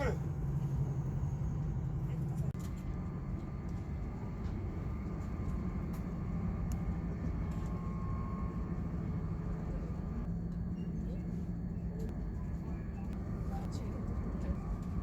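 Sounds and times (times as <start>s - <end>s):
train rumbling at speed: 0.0s - 15.0s.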